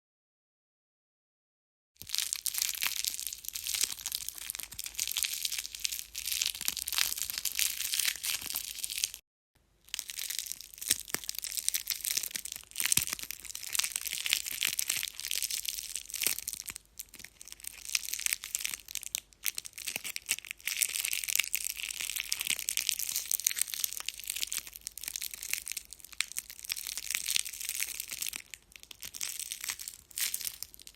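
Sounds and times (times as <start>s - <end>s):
tape being crumpled: 2.0s - 9.2s, 10.0s - 30.9s.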